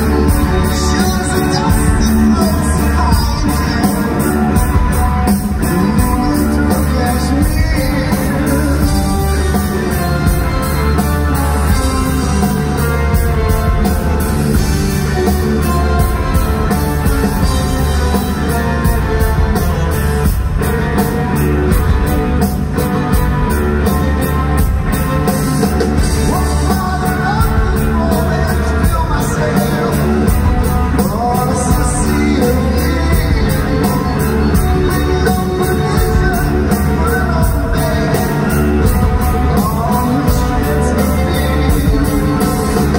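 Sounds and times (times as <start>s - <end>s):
lead singer singing: 0.0s - 21.5s, 24.9s - 42.9s
live rock band playing: 0.0s - 42.9s.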